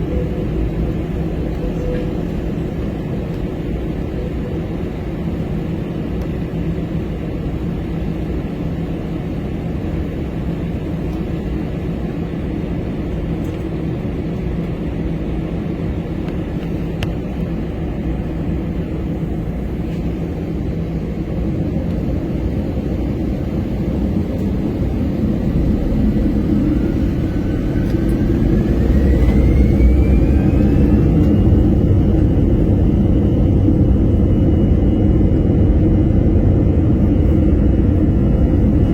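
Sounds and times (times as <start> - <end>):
jet engine rumble: 0.0 - 38.9
rising engine whine: 0.0 - 38.9.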